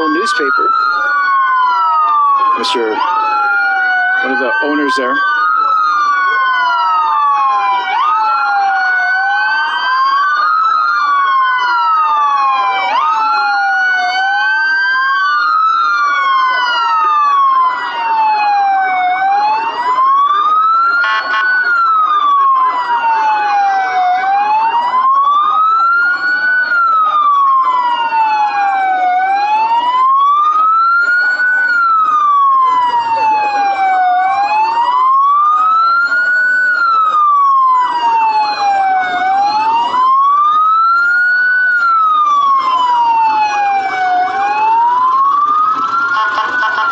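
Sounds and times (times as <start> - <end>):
emergency vehicle siren wailing: 0.0 - 46.9
second fainter siren wail: 0.0 - 46.9.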